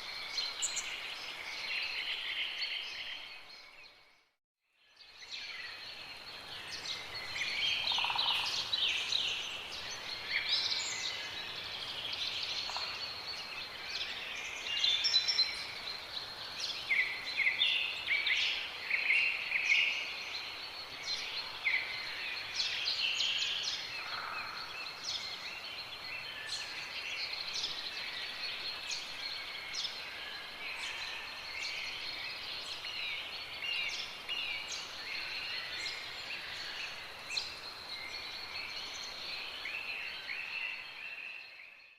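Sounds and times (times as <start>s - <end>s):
small birds chirping and trilling: 4.9s - 41.9s.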